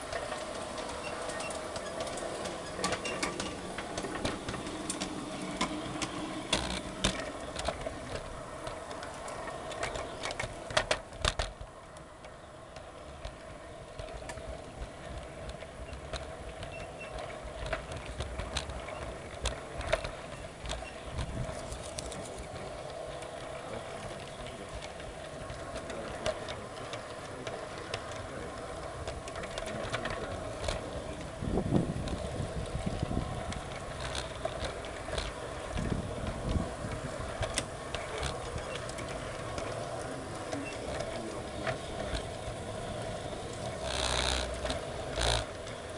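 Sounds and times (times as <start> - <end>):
model train motor hum: 0.0 - 45.9
wheels clicking over rail joints: 0.0 - 45.9.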